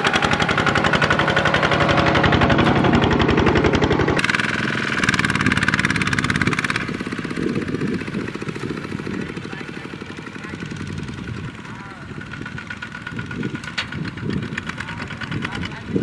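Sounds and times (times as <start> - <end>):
diesel tractor engines chugging: 0.0 - 16.0.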